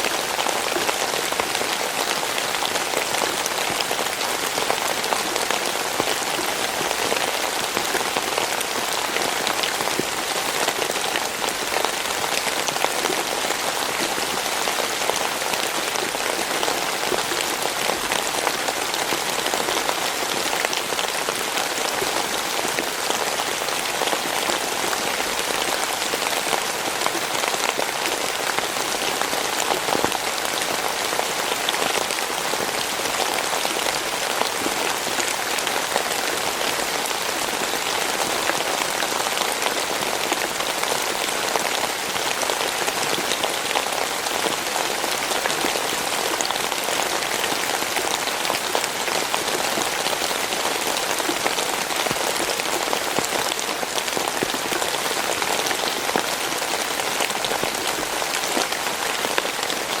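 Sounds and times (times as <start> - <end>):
steady rainfall: 0.0 - 60.0.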